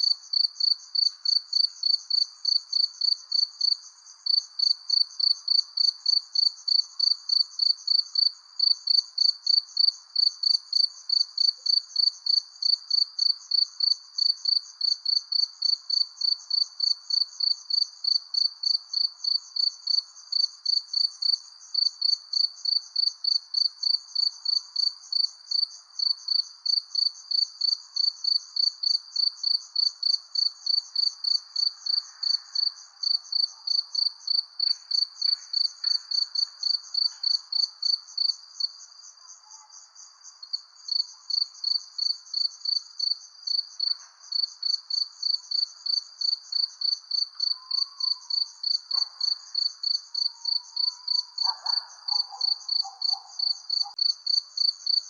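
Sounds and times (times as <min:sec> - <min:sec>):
crickets chirping: 0:00.0 - 0:55.0
soft continuous insect trill: 0:00.0 - 0:55.0.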